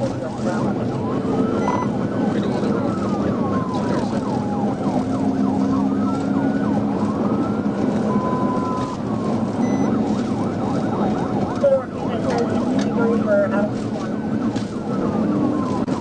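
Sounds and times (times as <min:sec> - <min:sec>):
engine and road noise: 0:00.0 - 0:16.0
police siren wailing and yelping: 0:00.0 - 0:16.0.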